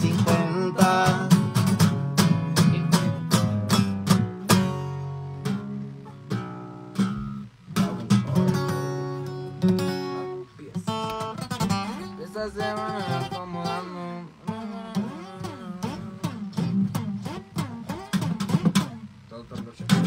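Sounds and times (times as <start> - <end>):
acoustic guitar playing: 0.0 - 20.0.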